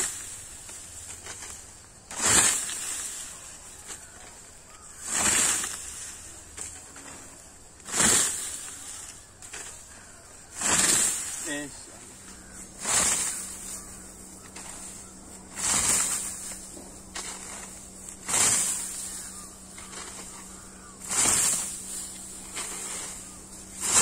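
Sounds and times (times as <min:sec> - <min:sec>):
scythe swishing through stalks: 0:00.0 - 0:24.0.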